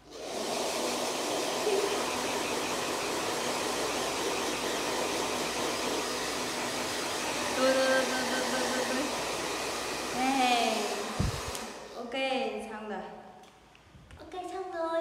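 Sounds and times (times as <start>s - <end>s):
hair dryer blowing air: 0.0s - 12.1s.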